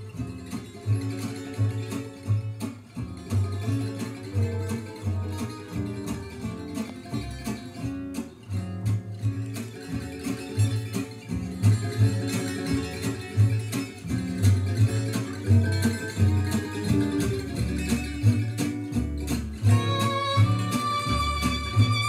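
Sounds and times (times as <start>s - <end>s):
bass line: 0.0s - 22.0s
plucked guitar music: 0.0s - 22.0s.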